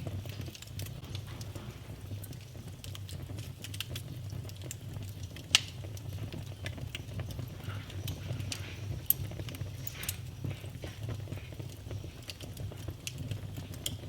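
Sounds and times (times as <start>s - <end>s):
fire crackling: 0.0s - 14.0s
fire flames rumbling: 0.0s - 14.0s
sharp fire pops: 0.0s - 14.0s.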